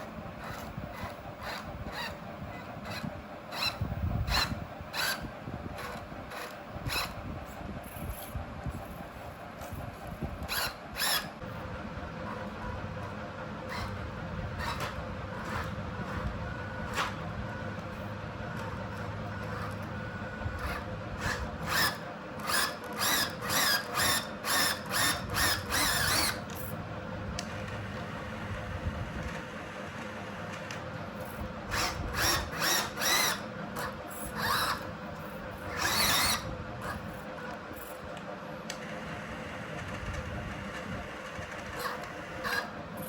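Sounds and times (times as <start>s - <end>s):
small electric motor whining: 0.0s - 26.8s, 27.4s - 38.1s, 38.7s - 43.0s
steady background hum: 0.0s - 43.0s.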